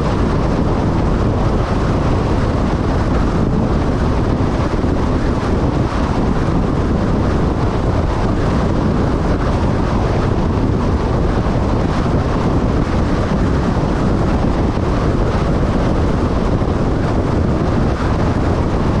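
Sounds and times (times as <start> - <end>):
vehicle road noise: 0.0 - 19.0
wind rushing over microphone: 0.0 - 19.0.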